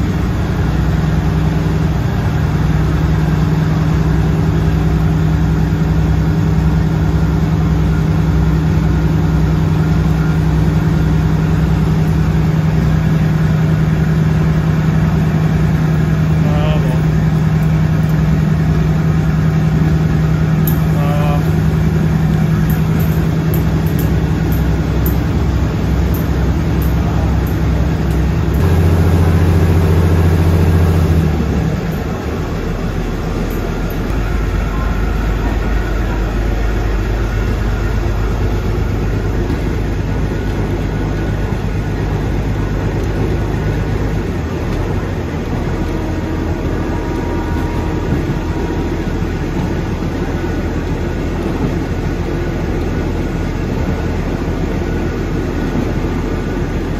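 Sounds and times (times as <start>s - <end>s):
diesel railcar engine running: 0.0s - 56.9s
moving train low rumble: 0.0s - 56.9s.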